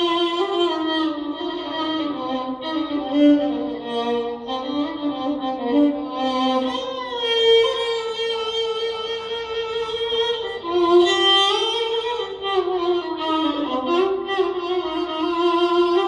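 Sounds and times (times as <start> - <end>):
slow violin melody: 0.0 - 16.0.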